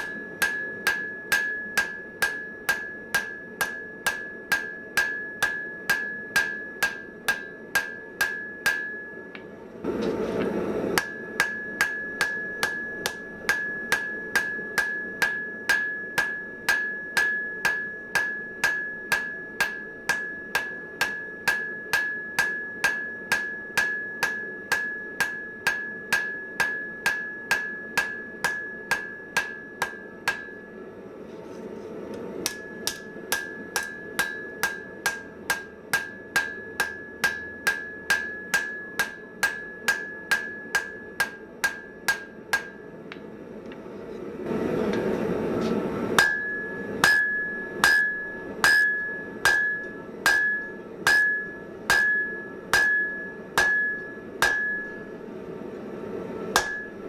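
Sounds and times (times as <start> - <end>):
anvil ringing: 0.0 - 9.4, 11.0 - 30.8, 32.4 - 42.9, 46.2 - 55.1, 56.6 - 57.0
hammer blows on hot steel: 0.0 - 31.2, 32.2 - 43.0, 44.4 - 55.3, 56.4 - 57.0.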